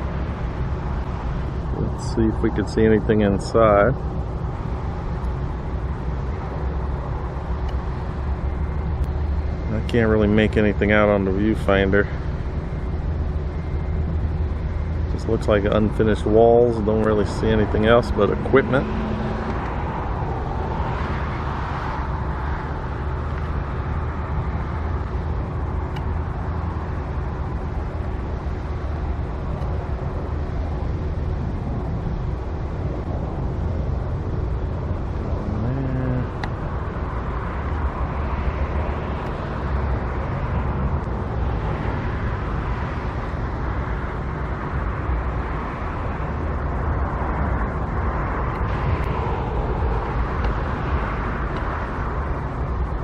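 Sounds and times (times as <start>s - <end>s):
road traffic hum: 0.0s - 53.0s.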